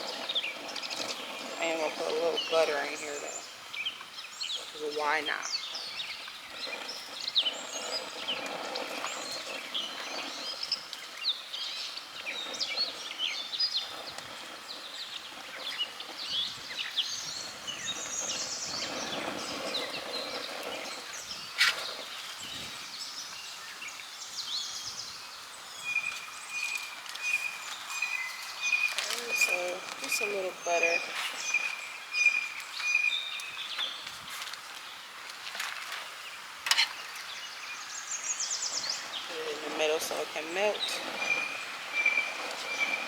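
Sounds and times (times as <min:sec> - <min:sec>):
outdoor background noise: 0:00.0 - 0:43.0
songbirds chirping: 0:00.0 - 0:43.0.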